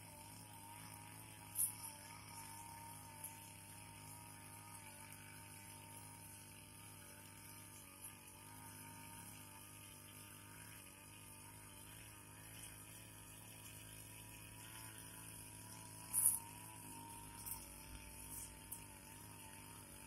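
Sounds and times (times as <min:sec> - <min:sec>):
brush cutter engine running: 0:00.0 - 0:20.0.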